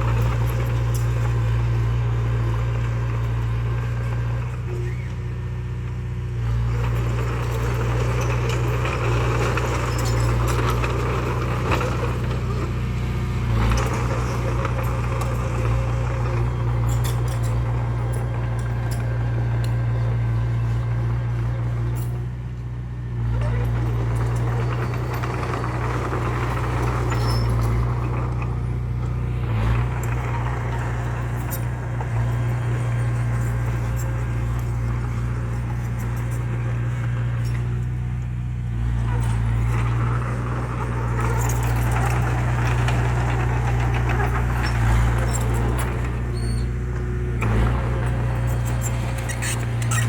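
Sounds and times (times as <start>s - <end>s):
heavy diesel engine droning: 0.0s - 50.0s.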